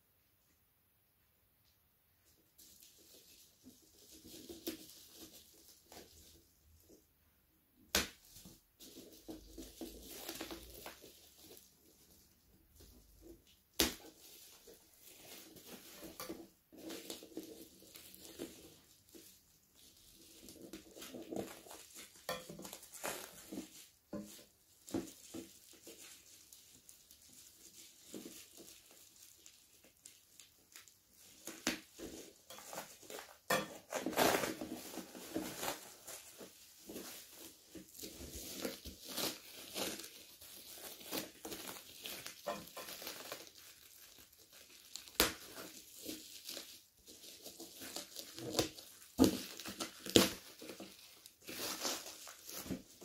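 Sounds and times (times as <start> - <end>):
bubble wrap crinkling: 2.2 - 7.1, 7.8 - 53.0.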